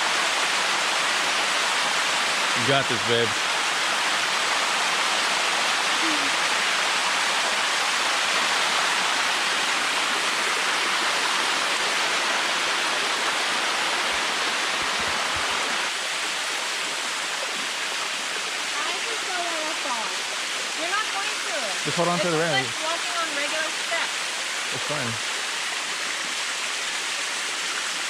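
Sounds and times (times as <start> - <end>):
water rushing over waterfall: 0.0 - 28.0.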